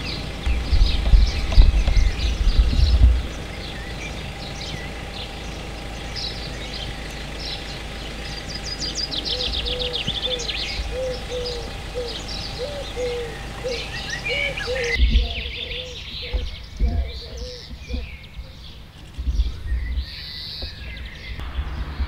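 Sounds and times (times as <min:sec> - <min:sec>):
bird trill: 0:00.0 - 0:22.0
low short bird call: 0:00.0 - 0:22.0
small birds chirping: 0:00.0 - 0:22.0.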